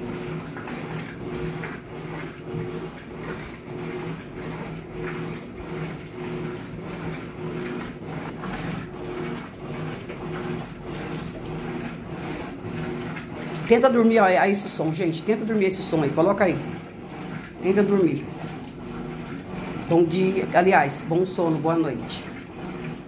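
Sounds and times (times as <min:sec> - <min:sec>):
washing machine motor pulsing: 0:00.0 - 0:23.0
water and clothes sloshing: 0:00.0 - 0:23.0.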